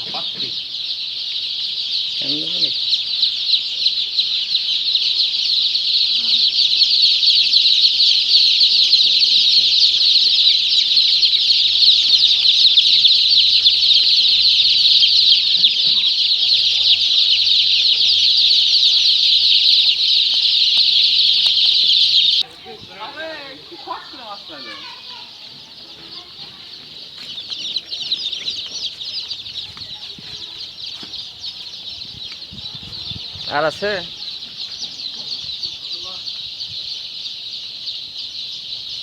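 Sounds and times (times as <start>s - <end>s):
chicks peeping and cheeping: 0.0s - 39.0s.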